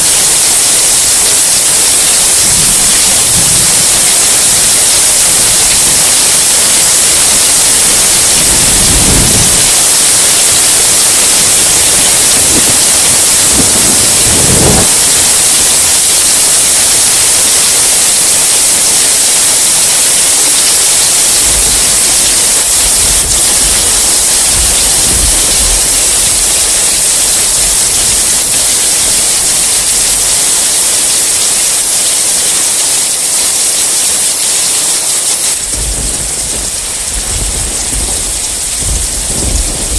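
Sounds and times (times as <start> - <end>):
low rolling thunder: 0.0 - 17.4, 20.7 - 31.5, 35.5 - 39.9
heavy rain hissing: 0.0 - 39.9.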